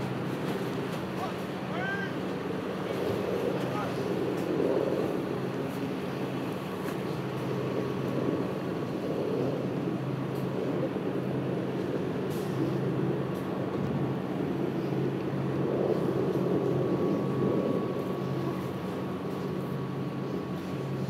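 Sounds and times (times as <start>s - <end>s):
helicopter rotor and engine drone: 0.0s - 21.0s
thin steady whine: 0.0s - 21.0s.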